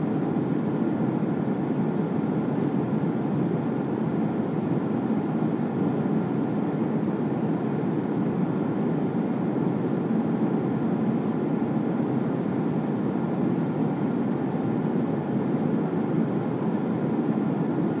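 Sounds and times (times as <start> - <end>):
jet airliner cabin drone: 0.0 - 18.0.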